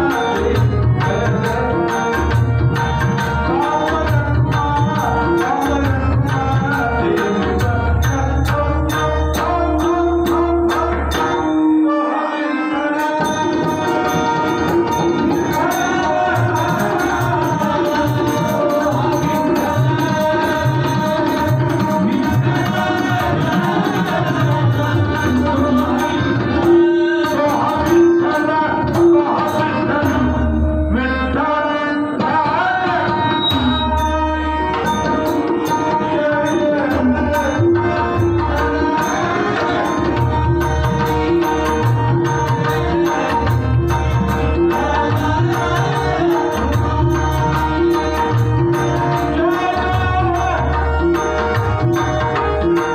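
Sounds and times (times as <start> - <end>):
harmonium chords: 0.0 - 52.9
man singing: 0.0 - 52.9.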